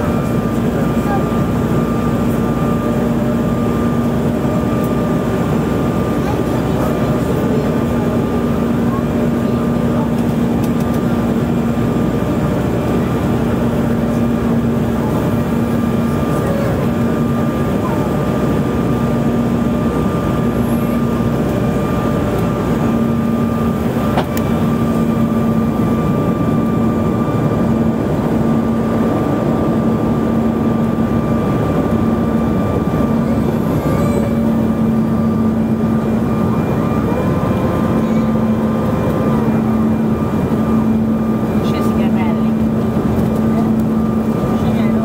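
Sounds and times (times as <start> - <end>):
jet cabin engine and airflow roar: 0.0 - 45.0.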